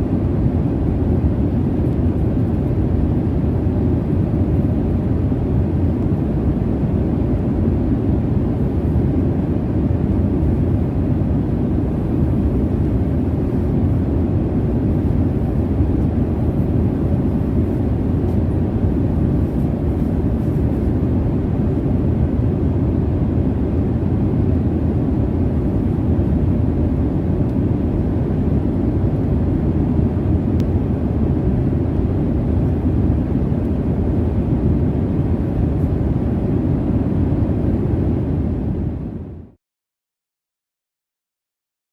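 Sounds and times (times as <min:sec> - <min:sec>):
airliner cabin drone: 0:00.0 - 0:39.6.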